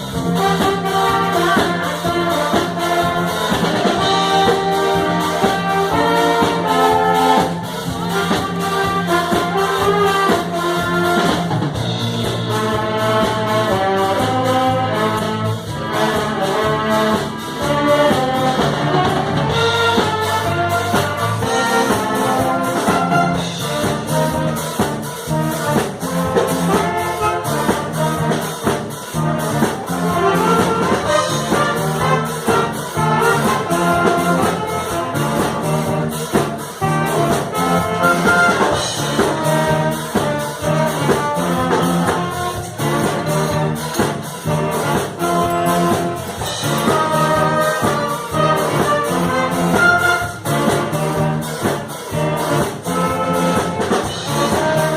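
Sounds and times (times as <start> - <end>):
live band with brass section: 0.0 - 54.9
steady drum beat: 0.0 - 54.9.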